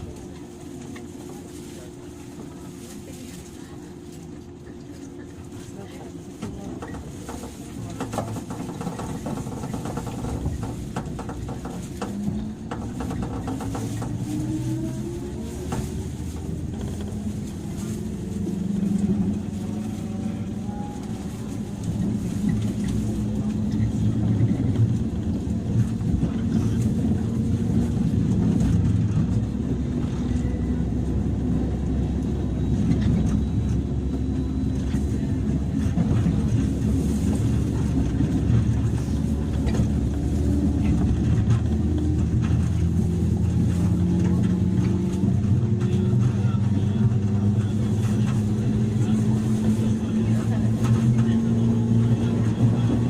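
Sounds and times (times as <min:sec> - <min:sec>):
rumbling train wheels: 0:00.0 - 0:53.0
train traction motors whining: 0:00.0 - 0:53.0.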